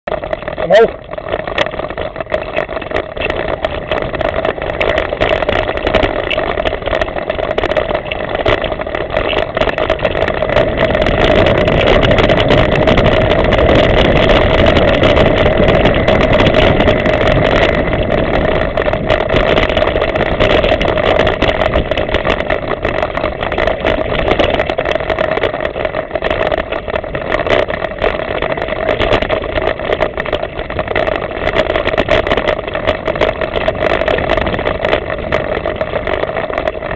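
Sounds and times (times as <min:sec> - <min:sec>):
bike rolling rushing rumble: 0:00.0 - 0:36.9
bike rattling clicks: 0:00.1 - 0:36.9.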